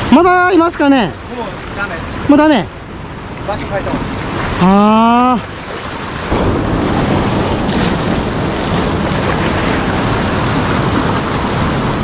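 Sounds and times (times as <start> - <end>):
sea surf washing among boulders: 0.0 - 12.0.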